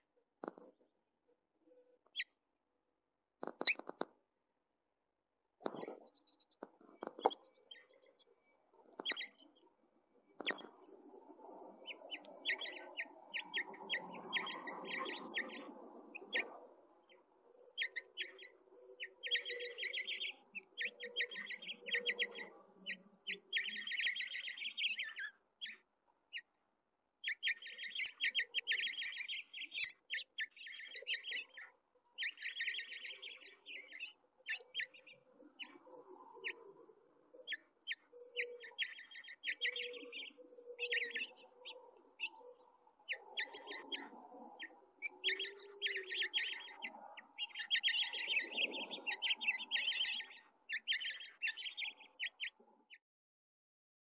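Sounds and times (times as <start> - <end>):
nestlings chirping: 3.4 - 4.1, 5.6 - 9.6, 10.4 - 10.8, 11.8 - 26.5, 27.2 - 35.8, 37.4 - 53.0.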